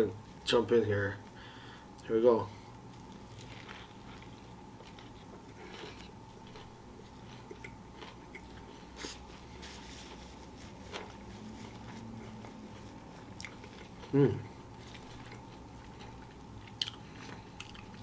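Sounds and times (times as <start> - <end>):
crunching and chewing: 2.7 - 18.0.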